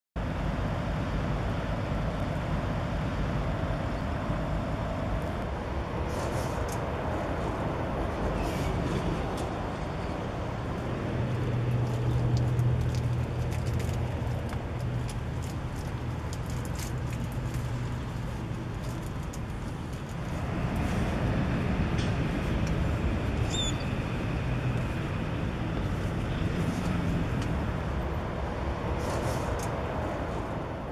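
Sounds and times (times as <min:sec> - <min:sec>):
low vehicle rumble: 0:00.2 - 0:30.9.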